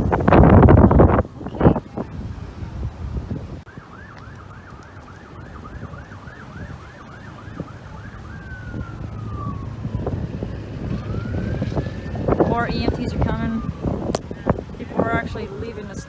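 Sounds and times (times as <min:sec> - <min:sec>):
electronic emergency siren: 0:00.0 - 0:16.0
engine and road rumble: 0:00.0 - 0:16.0.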